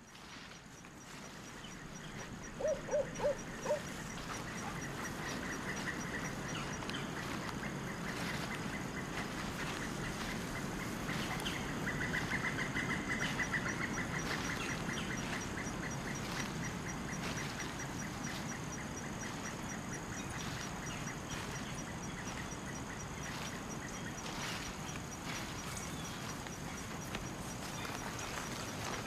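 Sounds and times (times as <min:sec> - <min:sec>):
bird calling in repeated notes: 0:01.0 - 0:24.8.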